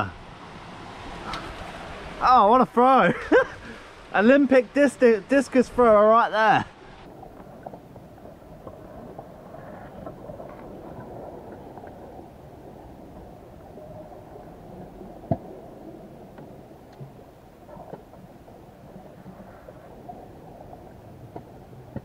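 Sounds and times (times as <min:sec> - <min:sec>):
muffled underwater sea noise: 0:00.0 - 0:22.0.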